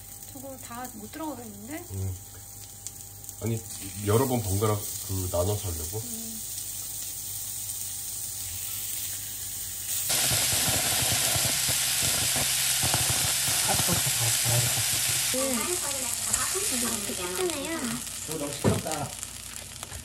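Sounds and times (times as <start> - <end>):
kitchen torch hissing: 0.0 - 20.0
meat sizzling in a frying pan: 0.0 - 20.0.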